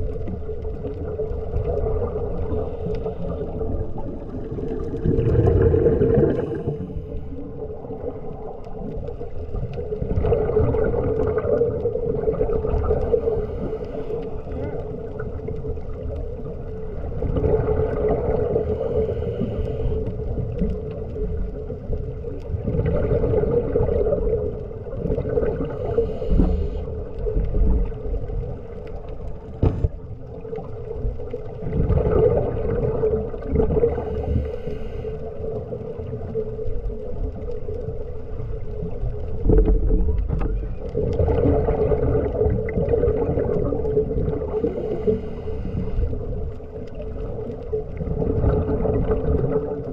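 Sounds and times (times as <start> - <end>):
diver breathing bubbles: 0.8 - 37.4, 41.0 - 49.9.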